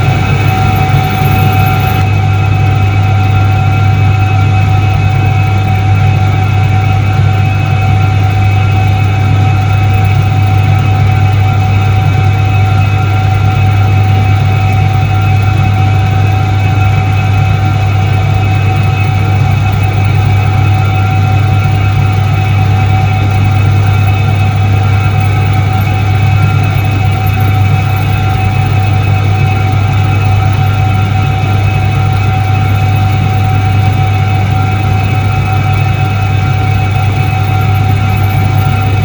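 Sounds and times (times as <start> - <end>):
washing machine motor hum: 0.0 - 39.0.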